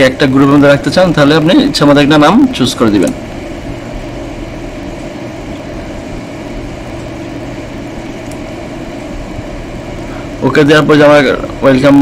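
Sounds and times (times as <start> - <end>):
machine hum with whir: 0.0 - 12.0.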